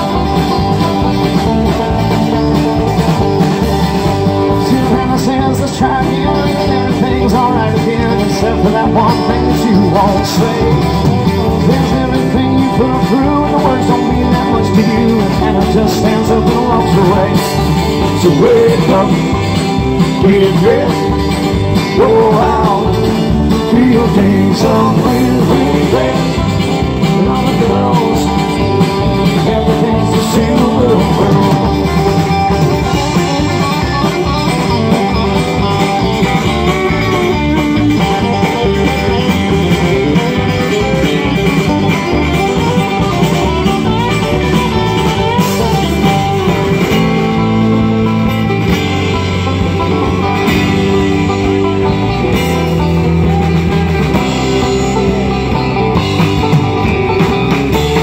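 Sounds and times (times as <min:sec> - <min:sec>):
electric guitar lead: 0:00.0 - 0:58.0
live band playing: 0:00.0 - 0:58.0.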